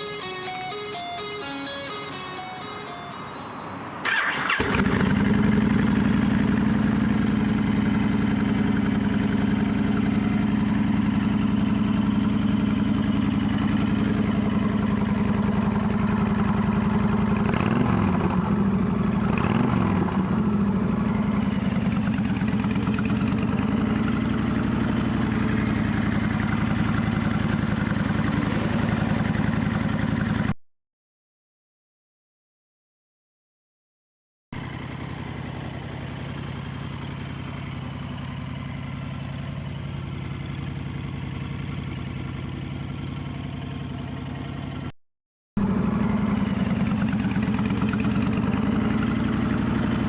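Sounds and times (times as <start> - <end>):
motorcycle engine idling: 4.7 - 30.5, 34.6 - 44.9, 45.6 - 50.0.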